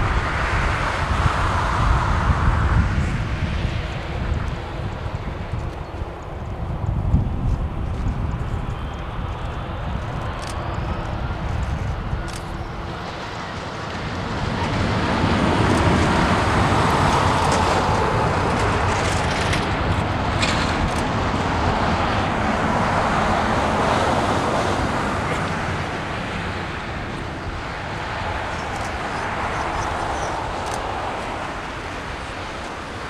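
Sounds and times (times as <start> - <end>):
jet engines taxiing: 0.0 - 33.0.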